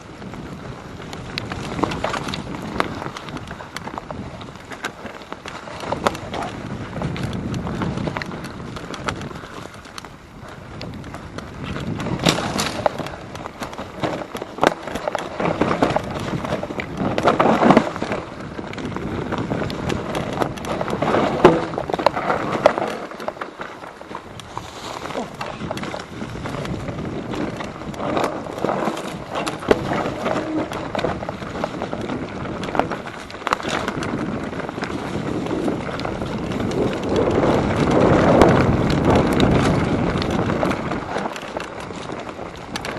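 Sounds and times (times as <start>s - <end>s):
bike knocks and rattles: 0.0s - 42.9s
bike tyre rumble: 0.0s - 42.9s.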